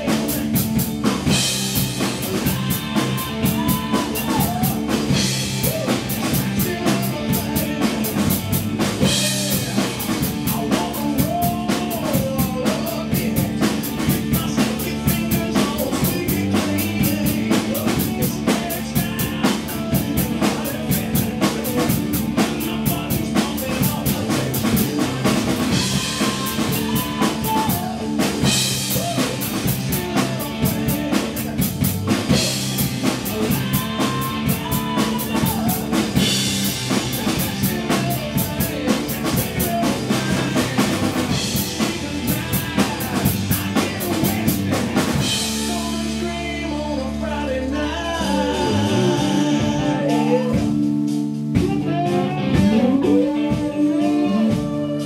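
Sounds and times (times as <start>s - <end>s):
rock drum kit playing: 0.0s - 55.0s
rock song with vocals and guitar: 0.0s - 55.0s.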